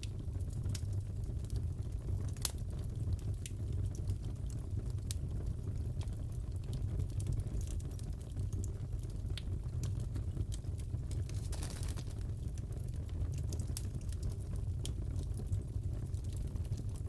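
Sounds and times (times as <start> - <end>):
sharp pops and snaps of fire: 0.0 - 17.0
fire crackling: 0.1 - 17.0.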